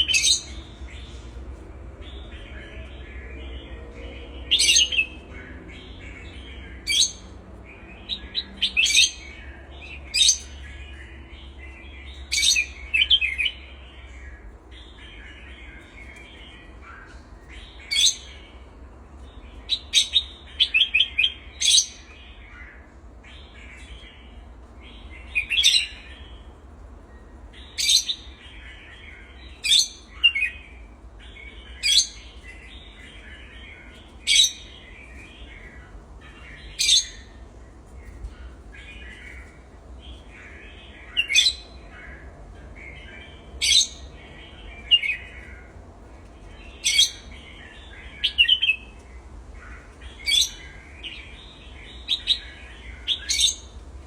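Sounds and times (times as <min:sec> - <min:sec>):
soft bird twittering: 0:00.0 - 0:53.8
birds chirping sharply: 0:00.0 - 0:54.0.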